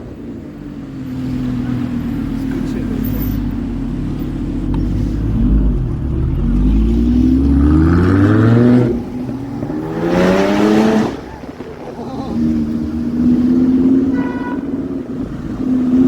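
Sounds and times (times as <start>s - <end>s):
supercar engine revving: 0.3s - 16.0s.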